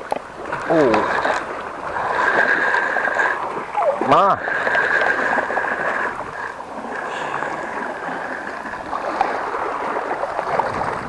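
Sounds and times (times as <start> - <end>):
seawater sloshing against rocks: 0.0 - 11.0.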